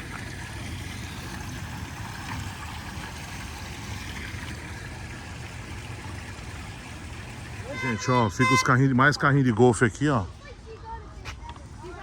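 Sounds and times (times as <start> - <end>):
stream flowing: 0.0 - 10.1.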